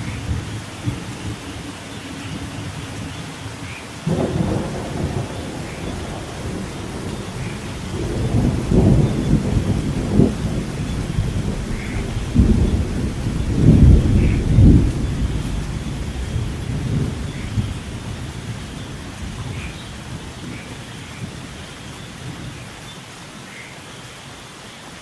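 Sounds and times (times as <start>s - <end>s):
thunder rumbling: 0.0s - 22.7s
steady rain: 0.0s - 25.0s.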